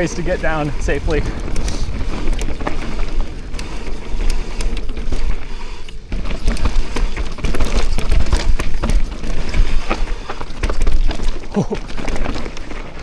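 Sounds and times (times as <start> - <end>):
bike rattling over ground: 0.0 - 13.0.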